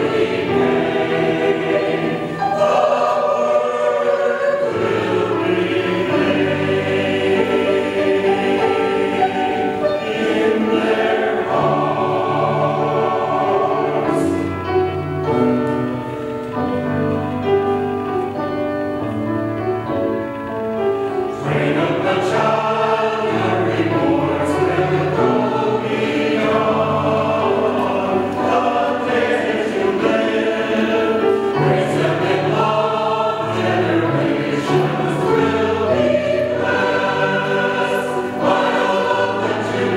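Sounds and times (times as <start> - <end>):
choir singing: 0.0 - 19.0, 20.8 - 39.9
piano accompaniment: 0.0 - 39.9.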